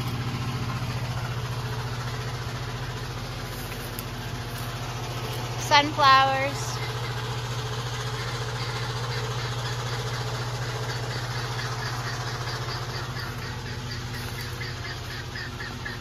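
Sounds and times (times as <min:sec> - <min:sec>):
low machine hum with flutter: 0:00.0 - 0:16.0.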